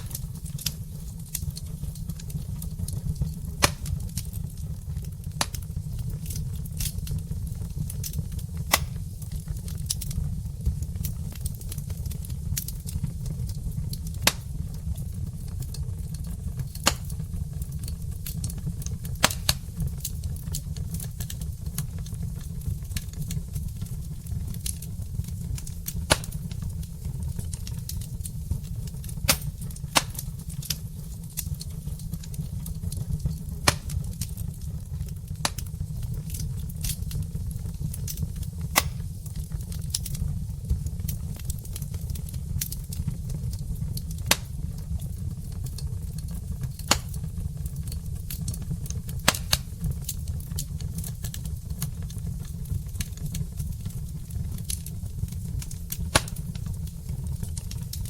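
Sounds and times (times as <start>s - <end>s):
steady low rumble: 0.0s - 50.0s
burning logs crackling: 0.0s - 58.0s
sharp pops of fire: 0.0s - 58.0s.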